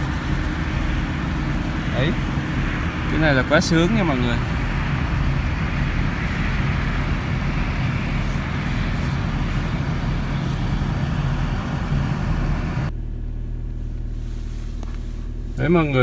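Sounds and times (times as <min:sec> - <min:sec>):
broad rushing noise: 0:00.0 - 0:12.9
car engine idling: 0:00.0 - 0:16.0.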